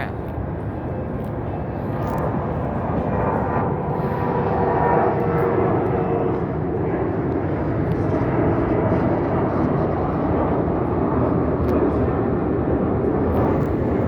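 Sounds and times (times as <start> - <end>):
jet airliner engines roaring: 0.0 - 14.0.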